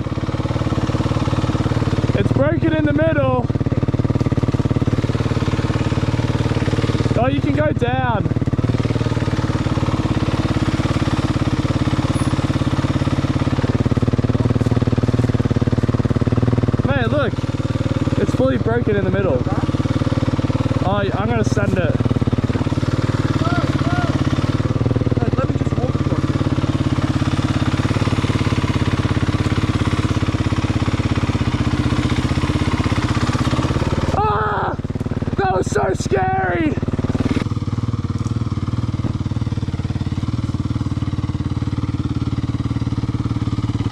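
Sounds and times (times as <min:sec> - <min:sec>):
dirt bike engine idling: 0:00.0 - 0:43.9.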